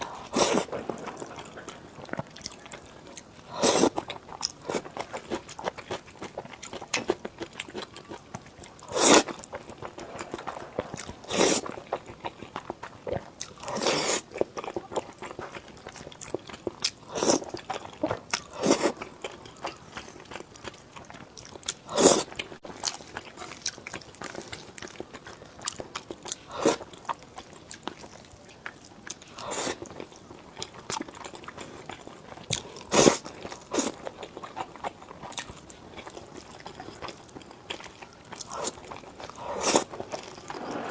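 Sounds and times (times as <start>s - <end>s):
chewing: 0.0s - 40.9s.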